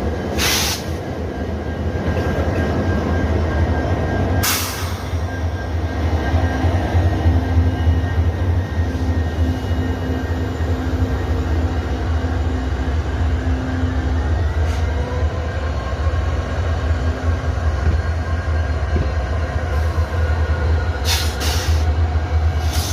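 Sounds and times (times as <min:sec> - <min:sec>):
diesel locomotive engine humming: 0:00.0 - 0:22.9.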